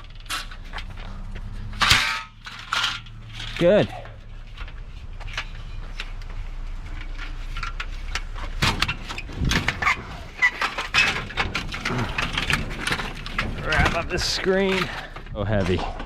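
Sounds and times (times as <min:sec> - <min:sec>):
low steady hum: 0:00.0 - 0:15.6
scrap parts clicking and clattering: 0:00.0 - 0:16.0.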